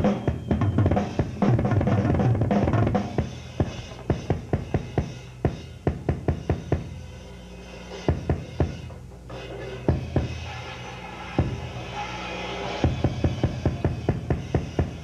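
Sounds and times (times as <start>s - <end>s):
drum kit playing: 0.0s - 15.0s.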